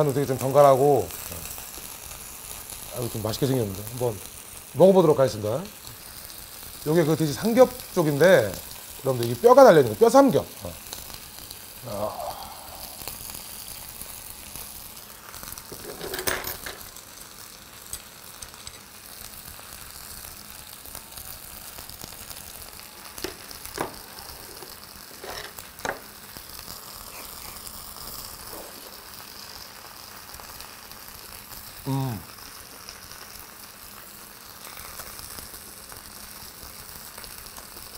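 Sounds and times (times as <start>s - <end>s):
meat sizzling on hot plate: 0.0s - 37.9s.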